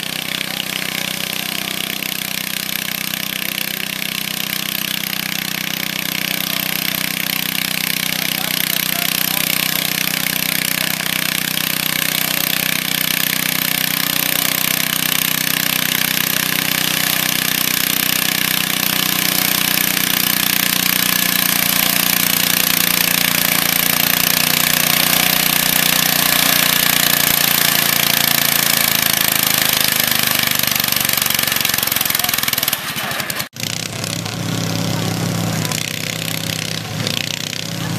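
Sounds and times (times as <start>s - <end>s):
tractor engine running at high revs: 0.0s - 37.9s.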